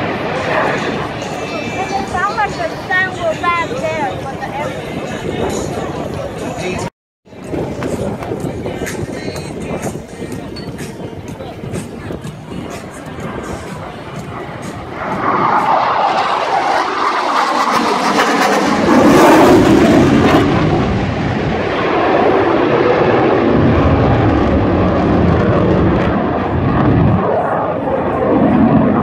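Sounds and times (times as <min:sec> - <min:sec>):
fighter jet roaring past: 0:00.0 - 0:06.9, 0:11.8 - 0:29.0.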